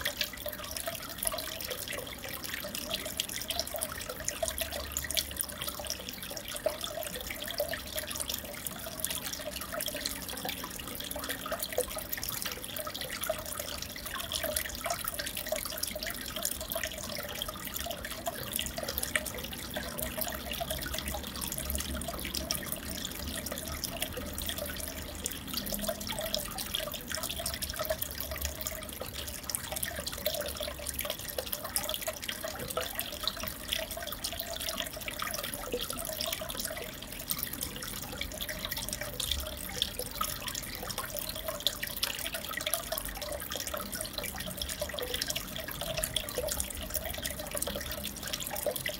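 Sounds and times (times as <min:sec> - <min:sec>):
aquarium water bubbling: 0:00.0 - 0:48.9.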